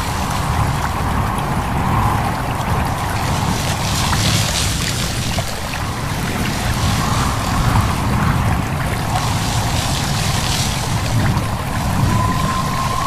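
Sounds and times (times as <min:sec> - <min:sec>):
babbling stream: 0:00.0 - 0:13.0
wind in leaves: 0:00.0 - 0:13.0.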